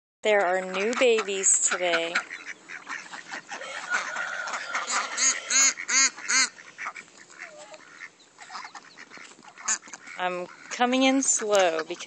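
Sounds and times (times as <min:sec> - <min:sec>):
ducklings peeping: 0:00.3 - 0:12.0
goose calling: 0:00.4 - 0:12.0.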